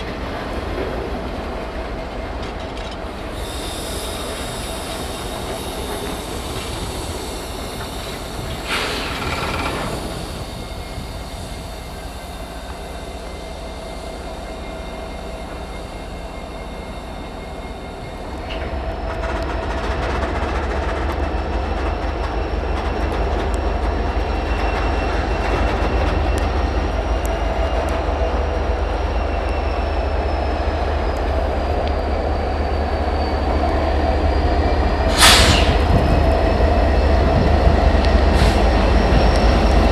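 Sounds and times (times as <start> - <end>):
locomotive engine rumble: 0.0 - 39.9
train wheels squealing: 0.1 - 39.9.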